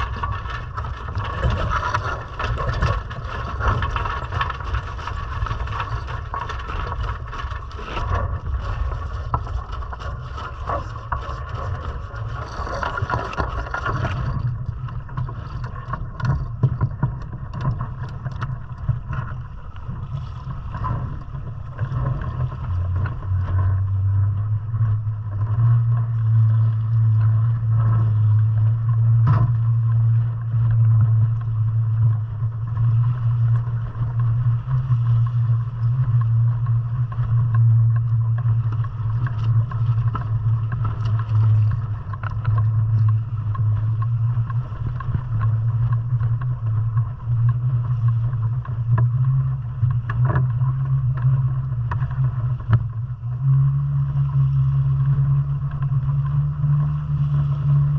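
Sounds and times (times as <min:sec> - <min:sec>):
low drone: 0:00.0 - 0:57.9.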